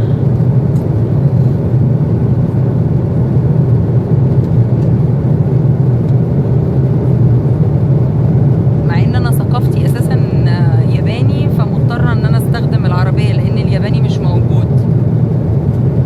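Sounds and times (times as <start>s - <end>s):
airliner cabin drone: 0.0s - 16.0s.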